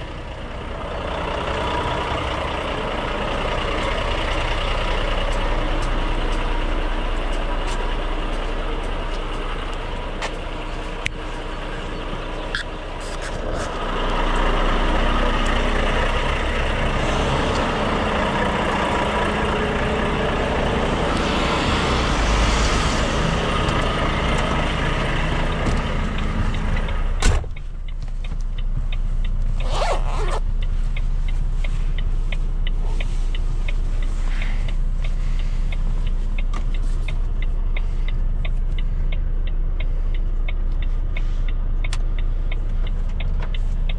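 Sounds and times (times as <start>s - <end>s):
truck diesel engine droning: 0.0s - 43.9s
turn signal ticking: 0.1s - 20.9s, 23.6s - 43.9s.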